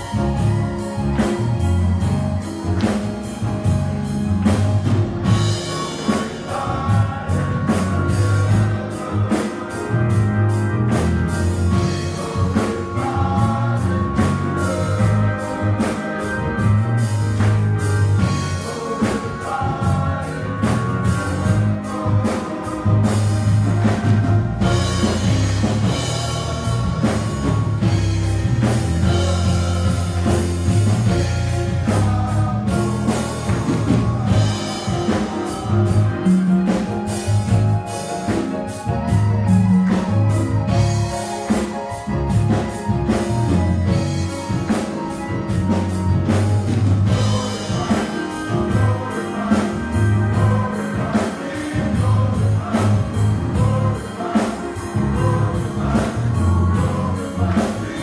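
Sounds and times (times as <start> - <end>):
drum kit beat: 0.0 - 58.0
keyboards: 0.0 - 58.0
male gospel chorus singing: 0.0 - 58.0.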